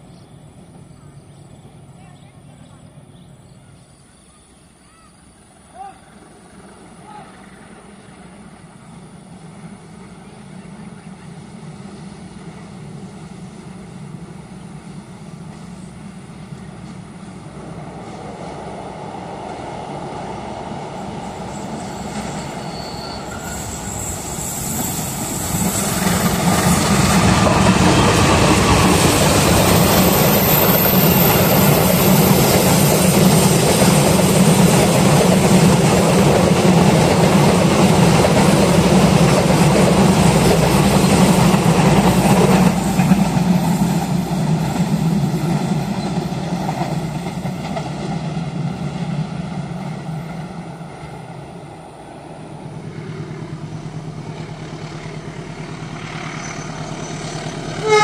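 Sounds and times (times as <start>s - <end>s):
diesel train engine drone: 0.0s - 58.0s
train rail noise: 0.0s - 58.0s.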